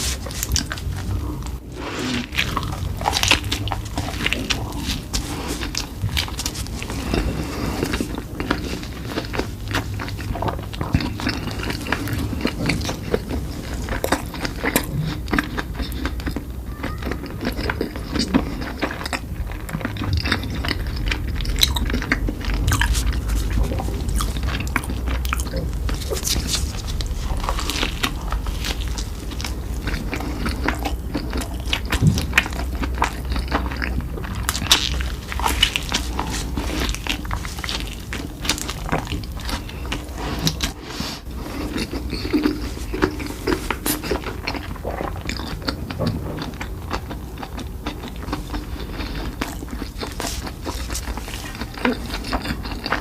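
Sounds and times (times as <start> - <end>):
crunchy chewing: 0.0 - 53.0
steady low hum: 0.0 - 53.0.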